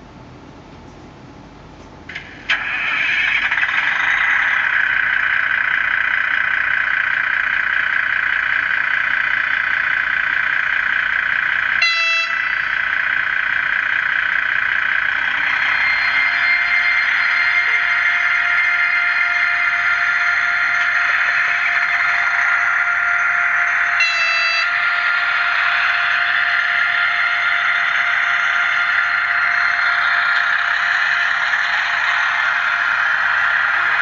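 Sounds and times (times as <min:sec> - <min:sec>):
diesel engine sound: 0:00.0 - 0:34.0
steady whine: 0:00.0 - 0:34.0.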